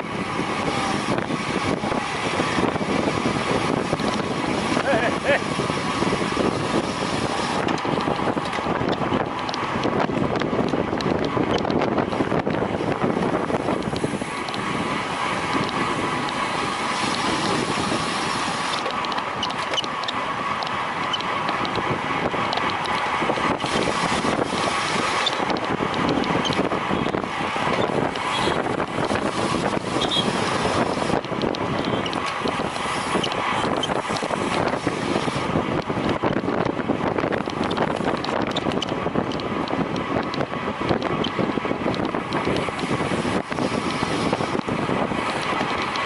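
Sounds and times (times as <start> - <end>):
wind buffeting microphone: 0.0 - 46.0
small clicks and ticks: 7.6 - 46.0.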